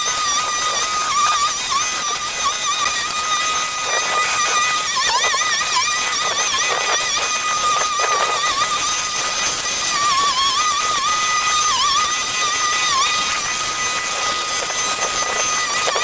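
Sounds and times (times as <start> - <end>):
small engine whining at high speed: 0.0 - 16.0.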